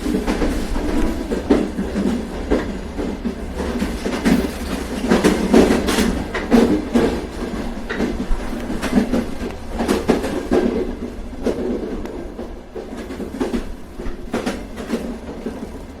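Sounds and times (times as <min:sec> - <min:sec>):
train carriage rumbling: 0:00.0 - 0:16.0
wheels clattering over track: 0:00.0 - 0:16.0.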